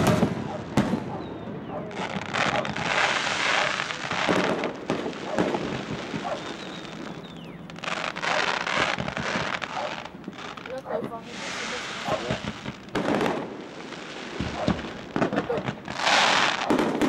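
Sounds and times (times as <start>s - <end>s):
fireworks bangs: 0.0s - 17.0s
fireworks crackling and fizzing: 0.0s - 17.0s.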